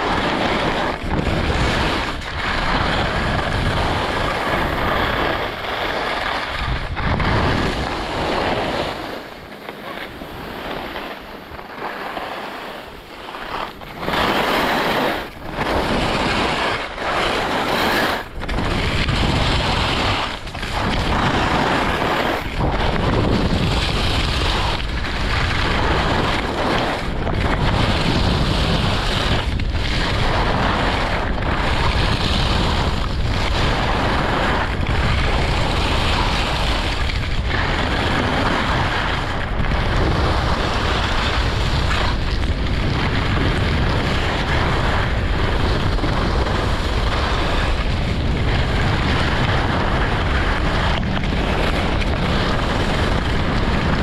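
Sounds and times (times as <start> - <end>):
skis scraping on packed snow: 0.0 - 54.0
wind rushing over microphone: 0.0 - 54.0.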